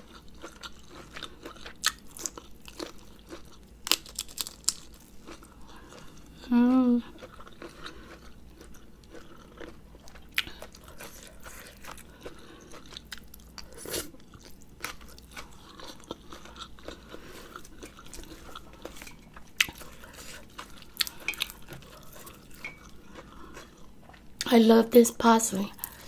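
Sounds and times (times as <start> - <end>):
close-up chewing: 0.0 - 24.5.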